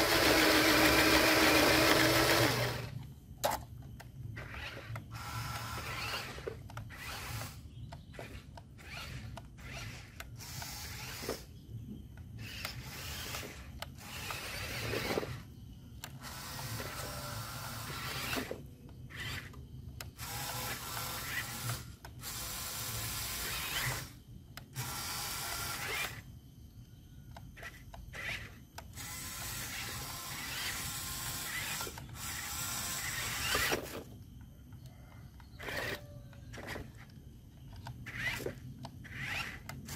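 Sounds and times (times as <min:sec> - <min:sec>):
toy truck electric motors whirring: 0:00.0 - 0:26.5, 0:27.3 - 0:39.9.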